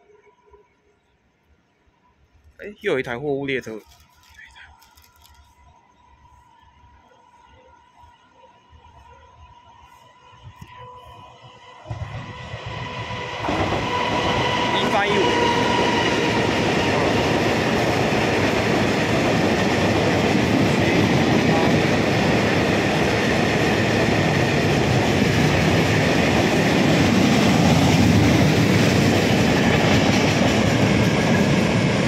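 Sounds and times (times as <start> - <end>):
steel wheels on rails: 3.7 - 32.0.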